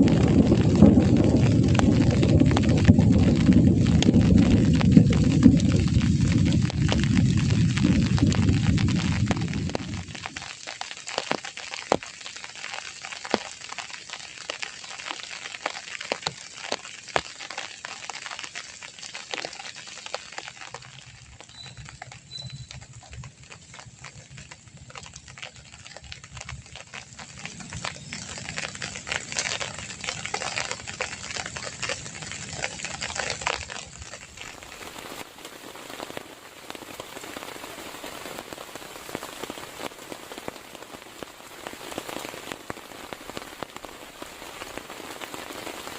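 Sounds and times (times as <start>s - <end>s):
rain hiss: 0.0s - 45.9s
raindrops ticking on surface: 0.0s - 45.9s.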